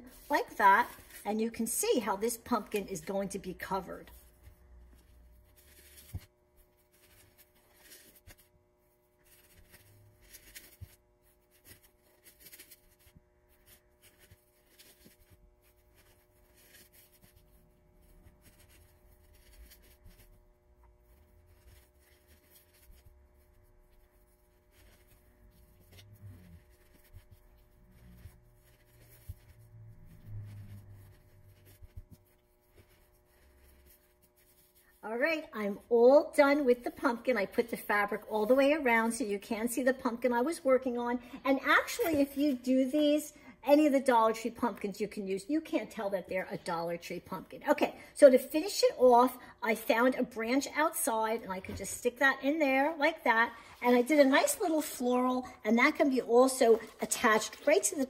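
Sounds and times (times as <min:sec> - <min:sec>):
fabric rustling and scratching: 0:00.0 - 0:41.0, 0:46.5 - 0:58.0
low steady hum: 0:00.0 - 0:58.0.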